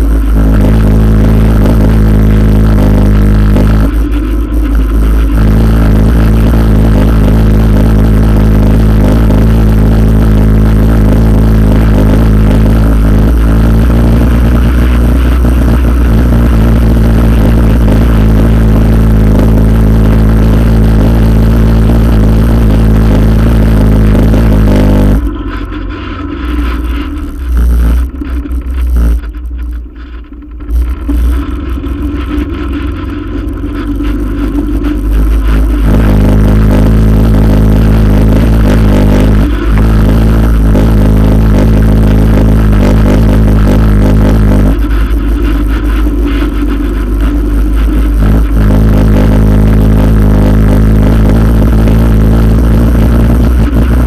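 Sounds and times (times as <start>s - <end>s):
atv engine running: 0.0s - 54.0s
low rumble: 0.0s - 54.0s
vibration rattle: 0.0s - 54.0s.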